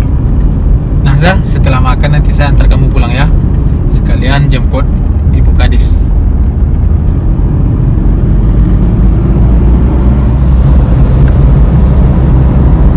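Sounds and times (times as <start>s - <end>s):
car engine and road noise: 0.0s - 12.9s.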